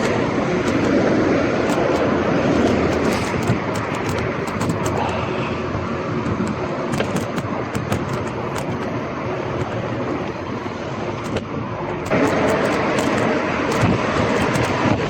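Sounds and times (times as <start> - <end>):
bike clicks and rattles: 0.0 - 5.2, 6.2 - 15.0
bike tyre and road noise: 0.0 - 15.0.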